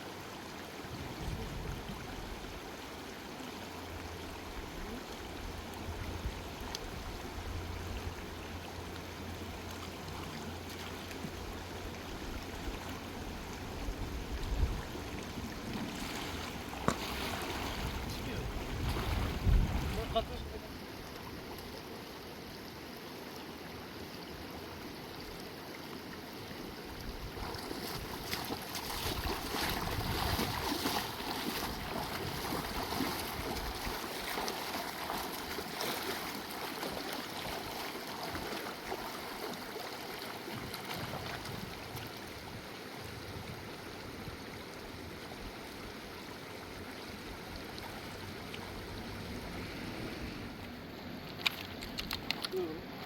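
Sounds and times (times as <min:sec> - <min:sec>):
river water rushing: 0:02.0 - 0:53.0.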